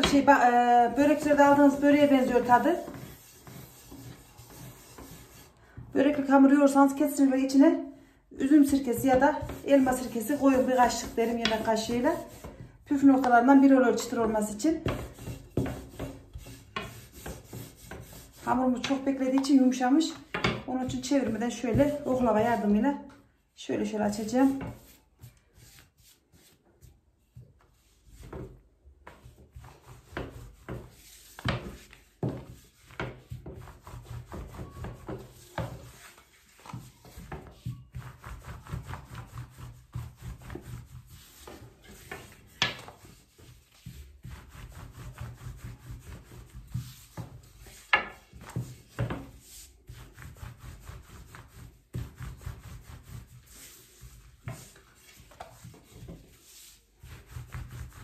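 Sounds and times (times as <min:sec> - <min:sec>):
rolling pin rolling dough: 0:00.0 - 0:07.6, 0:08.4 - 0:23.2, 0:23.8 - 0:58.0.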